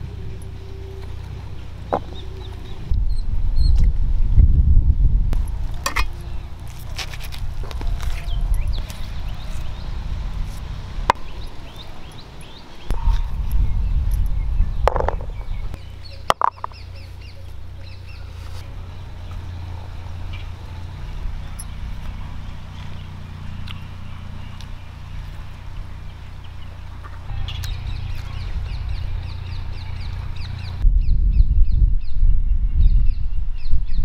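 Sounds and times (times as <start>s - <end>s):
birds chirping: 0.0s - 3.8s, 5.0s - 34.0s
steady low rumble: 0.0s - 34.0s.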